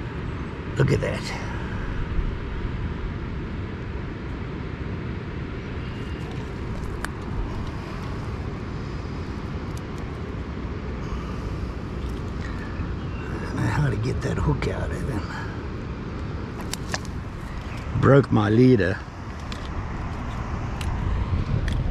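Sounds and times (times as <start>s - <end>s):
wind rumble on microphone: 0.0s - 14.4s, 15.4s - 21.9s.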